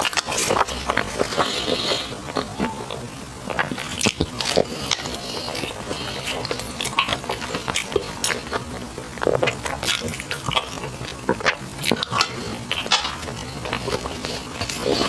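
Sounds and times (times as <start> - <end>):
chewing crunchy rice snacks: 0.0 - 15.0.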